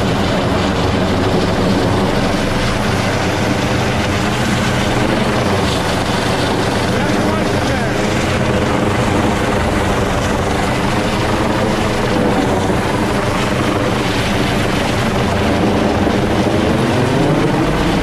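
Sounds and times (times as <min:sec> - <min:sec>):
helicopter hovering overhead: 0:00.0 - 0:18.0.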